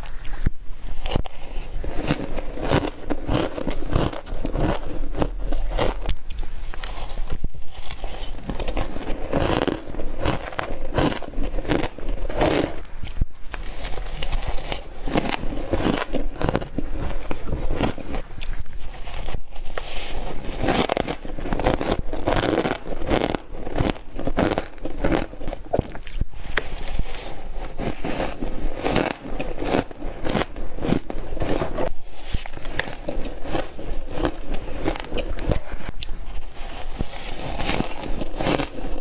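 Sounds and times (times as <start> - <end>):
person crunching and chewing frost: 0.0 - 39.0.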